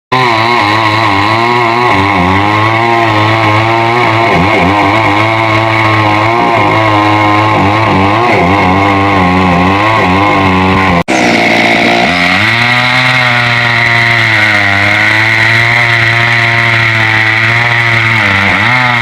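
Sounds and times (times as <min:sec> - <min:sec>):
chainsaw cutting wood: 0:00.1 - 0:19.0.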